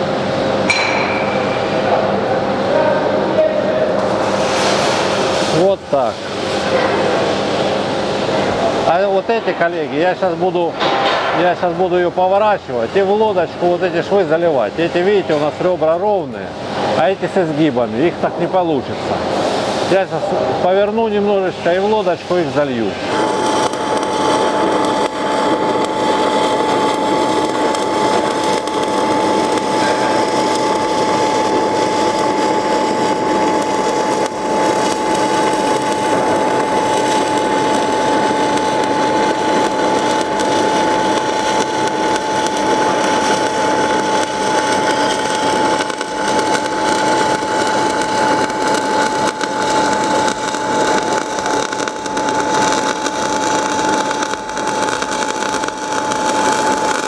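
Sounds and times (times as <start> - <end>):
welding arc crackle: 3.9 - 18.2, 19.3 - 57.0.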